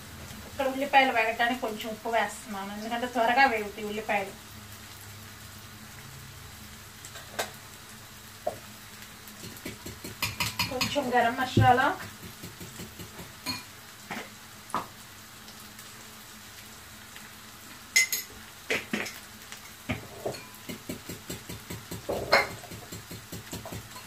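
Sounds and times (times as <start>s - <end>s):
onions sizzling in a pan: 0.0s - 24.0s.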